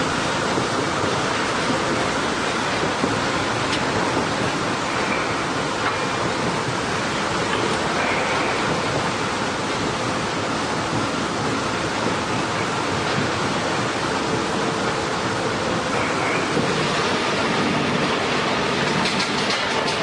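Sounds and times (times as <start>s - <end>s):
heavy wood-processing machinery: 0.0s - 20.0s.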